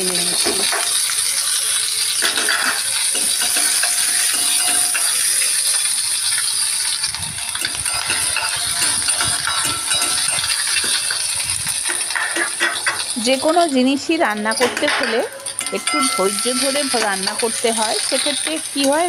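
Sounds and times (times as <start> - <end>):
onions sizzling in oil: 0.0 - 19.0
metal spoon scraping pan: 2.2 - 13.3, 14.4 - 19.0.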